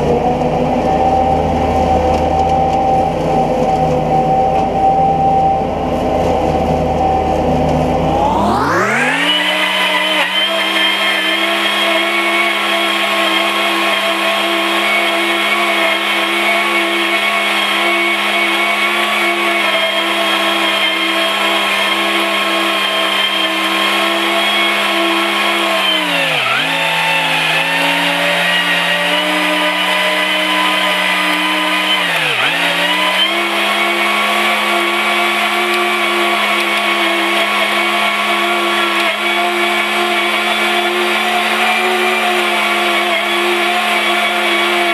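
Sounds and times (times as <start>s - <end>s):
tractor engine high-pitched whine: 0.0s - 44.9s.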